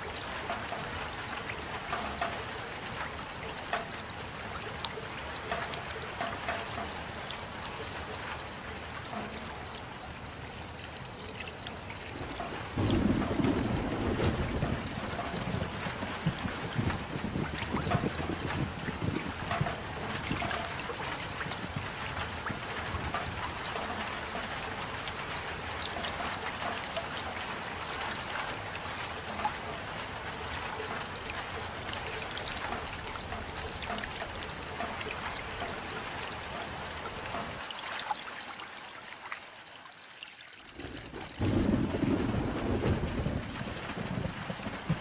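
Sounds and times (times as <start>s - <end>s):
rain patter: 0.0s - 45.0s
water trickling: 0.0s - 45.0s.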